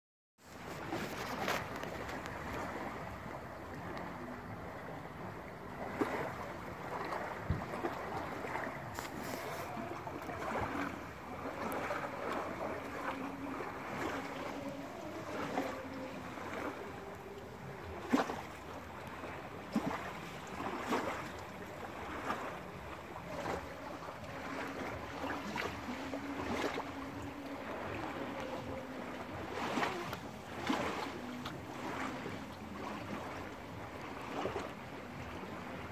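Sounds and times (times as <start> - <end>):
waves lapping at shoreline: 0.4 - 35.9.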